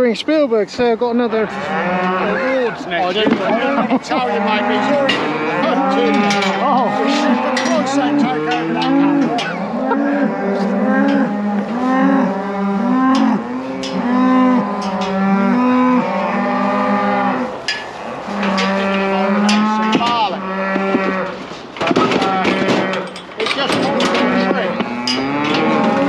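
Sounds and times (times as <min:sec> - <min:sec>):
calves bawling: 0:01.2 - 0:26.0.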